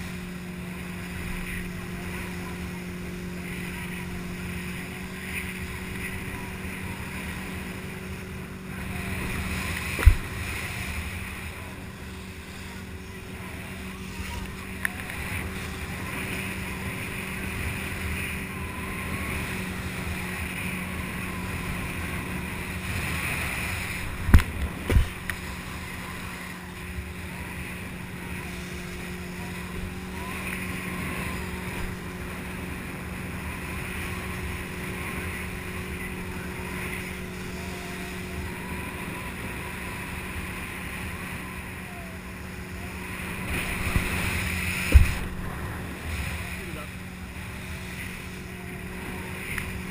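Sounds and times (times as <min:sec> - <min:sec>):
boat engine droning: 0:00.0 - 0:49.9
water and wind hiss: 0:00.0 - 0:49.9.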